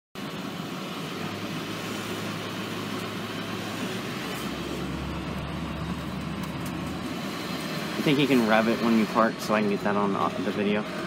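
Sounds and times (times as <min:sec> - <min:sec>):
bus diesel engine droning: 0:00.2 - 0:11.0.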